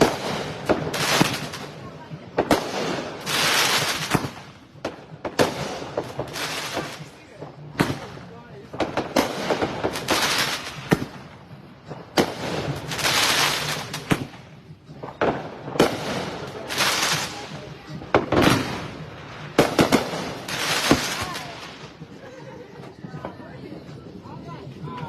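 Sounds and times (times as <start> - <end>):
firework bangs: 0.0 - 22.2
firework crackling: 0.0 - 25.0.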